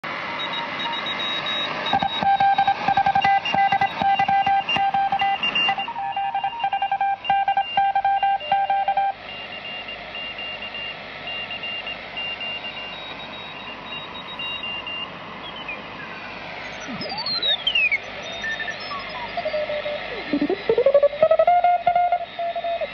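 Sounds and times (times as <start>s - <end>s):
morse code tones: 0.4s - 15.8s, 16.7s - 22.9s
radio static hiss: 1.5s - 22.9s.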